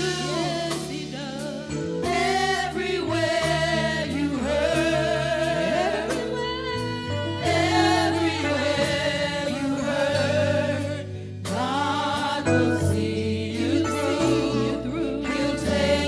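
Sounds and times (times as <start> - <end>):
bass line: 0.0 - 16.0
drums: 0.0 - 16.0
gospel group singing: 0.0 - 16.0.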